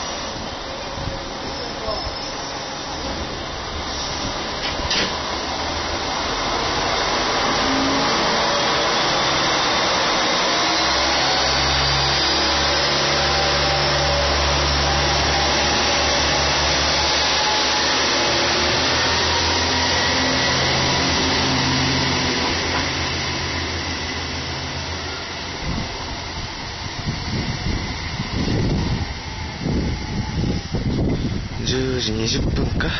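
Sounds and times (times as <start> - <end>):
diesel train engines accelerating: 0.0 - 32.9.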